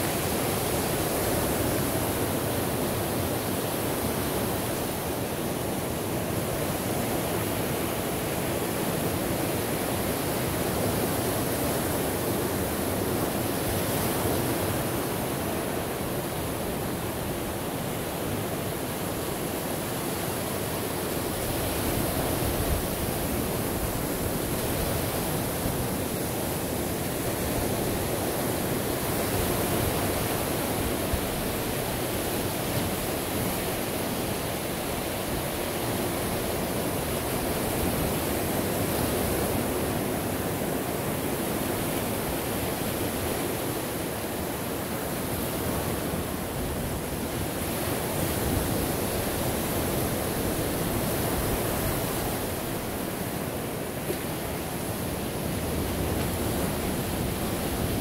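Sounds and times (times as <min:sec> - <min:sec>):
waves washing on shore: 0:00.0 - 0:58.0.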